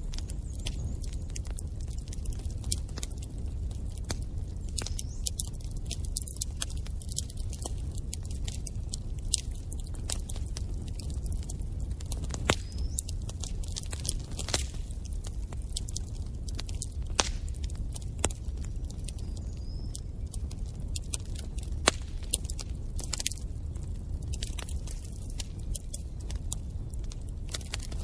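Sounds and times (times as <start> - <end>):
fire burning in fireplace: 0.0 - 28.0
fire crackling and popping: 0.0 - 28.0.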